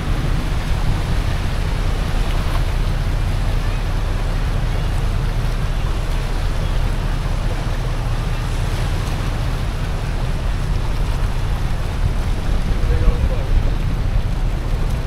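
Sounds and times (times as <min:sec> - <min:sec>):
boat engine rumble: 0:00.0 - 0:15.0
water wash: 0:00.0 - 0:15.0
wind on microphone: 0:00.0 - 0:15.0.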